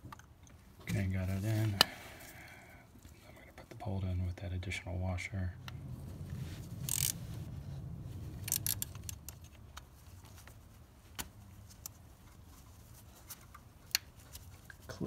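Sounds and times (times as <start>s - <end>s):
rustling handling noise: 0.6s - 3.9s, 5.8s - 15.0s.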